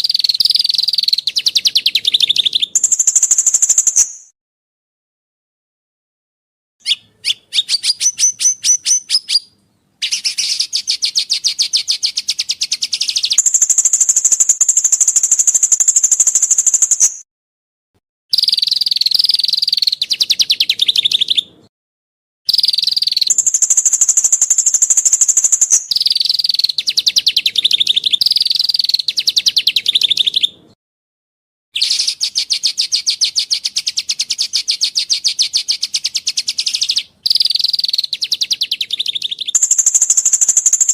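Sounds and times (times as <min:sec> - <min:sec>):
songbird trills: 0:00.0 - 0:04.3, 0:06.8 - 0:17.2, 0:18.3 - 0:21.6, 0:22.5 - 0:30.6, 0:31.8 - 0:40.9.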